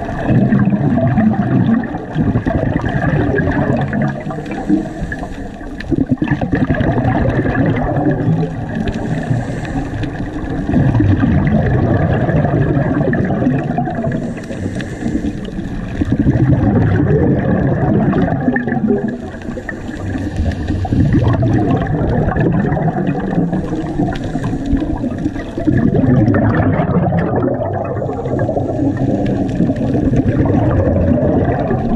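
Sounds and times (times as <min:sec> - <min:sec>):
exhaled bubbles: 0:00.0 - 0:31.9
muffled underwater rumble: 0:00.0 - 0:31.9.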